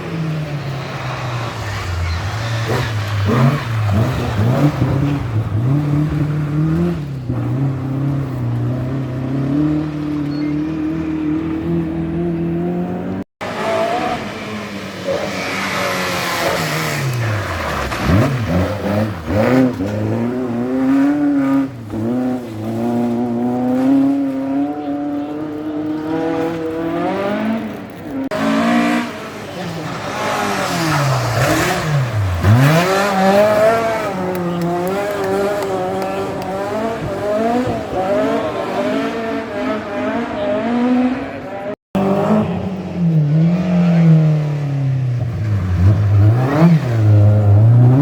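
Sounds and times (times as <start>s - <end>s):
car passing through gear changes: 0.0s - 48.0s
rally car engines revving: 0.0s - 48.0s.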